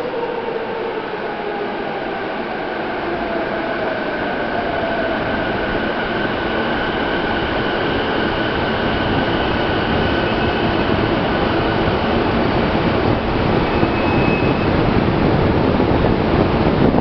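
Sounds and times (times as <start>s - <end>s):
train rolling rumble: 0.0s - 17.0s.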